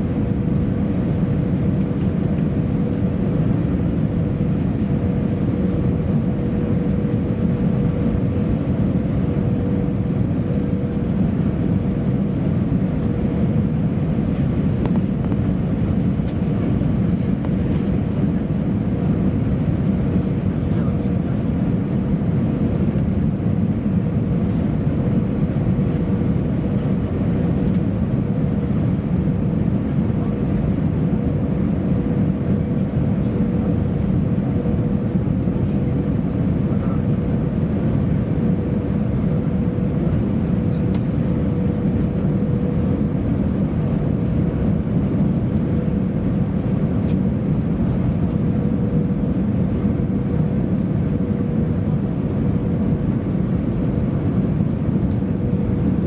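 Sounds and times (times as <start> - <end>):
low rumble of jet engines: 0.0 - 56.0.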